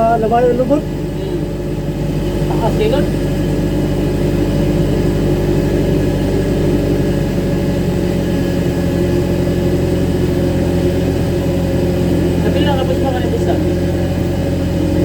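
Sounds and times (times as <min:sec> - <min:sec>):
tug engine deep drone: 0:00.0 - 0:15.0.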